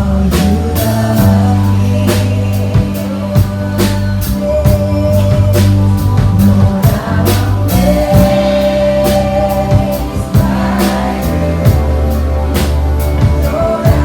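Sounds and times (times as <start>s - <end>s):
band playing: 0.0s - 14.0s
bass notes: 0.0s - 14.0s
drum kit beat: 0.0s - 14.0s
gospel singing: 0.0s - 14.0s.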